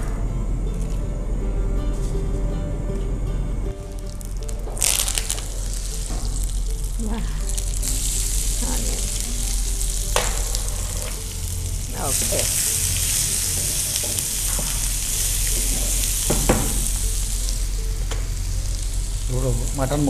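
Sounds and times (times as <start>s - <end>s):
onions sizzling in hot oil: 3.8s - 20.0s.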